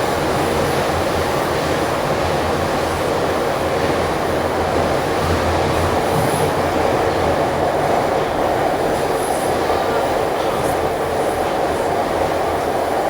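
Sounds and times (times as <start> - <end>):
metro car rumbling in tunnel: 0.0 - 13.0.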